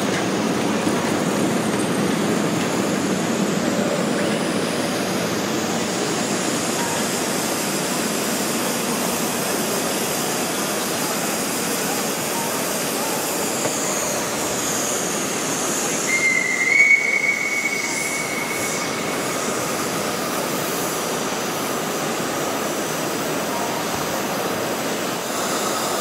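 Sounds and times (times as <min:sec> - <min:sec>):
steam train squeal: 0:00.0 - 0:26.0.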